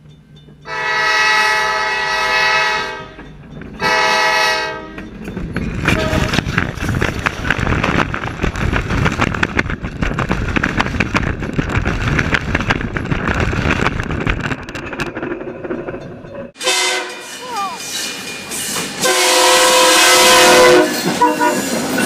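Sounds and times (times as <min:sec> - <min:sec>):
steel wheels clanking on rail: 0:00.0 - 0:01.5, 0:02.5 - 0:22.0
train rumbling over rails: 0:00.0 - 0:22.0.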